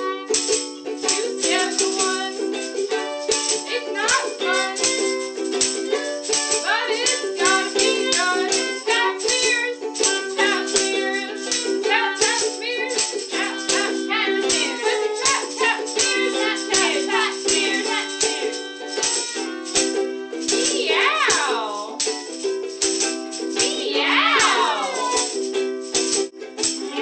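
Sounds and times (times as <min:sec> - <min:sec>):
person singing: 0:00.0 - 0:22.3, 0:23.4 - 0:25.5, 0:26.8 - 0:27.0
shaker rattling: 0:00.3 - 0:27.0.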